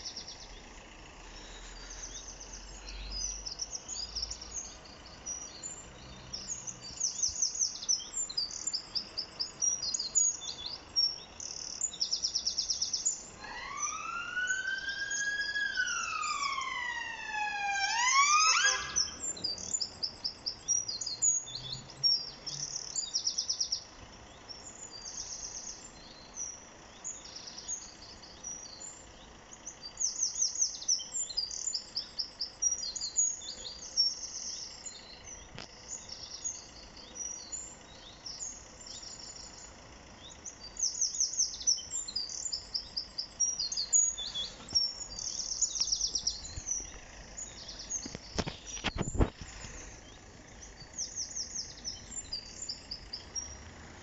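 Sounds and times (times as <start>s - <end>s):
low background hum: 0.0s - 54.0s
songbirds singing: 0.0s - 54.0s.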